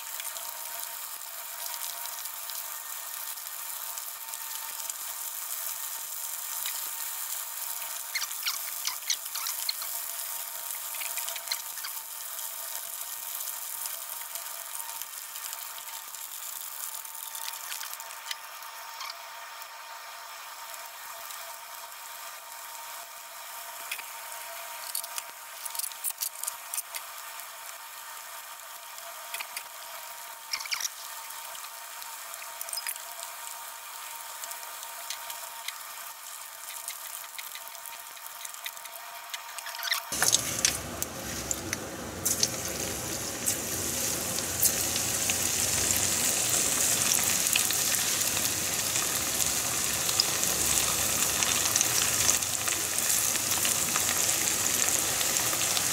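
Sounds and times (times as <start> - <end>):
food deep-frying in hot oil: 0.0 - 55.9.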